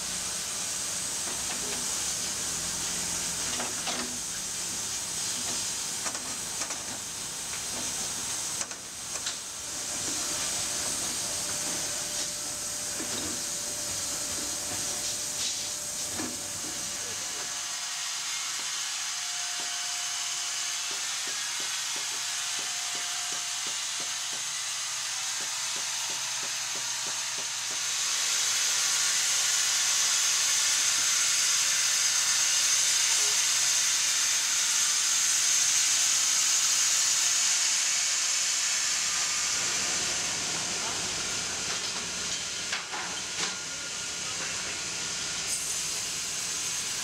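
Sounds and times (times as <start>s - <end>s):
band sawmill cutting log: 0.0s - 47.0s.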